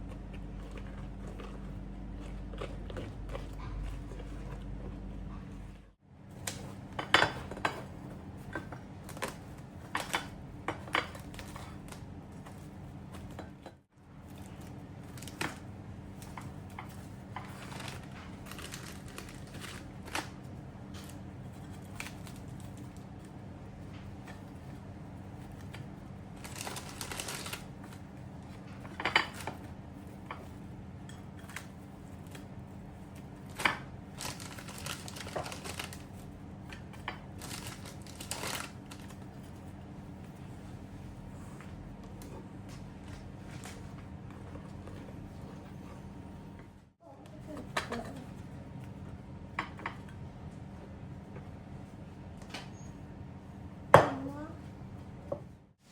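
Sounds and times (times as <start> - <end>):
rustling and crinkling: 0.0 - 49.2
steady low hum: 0.0 - 55.9.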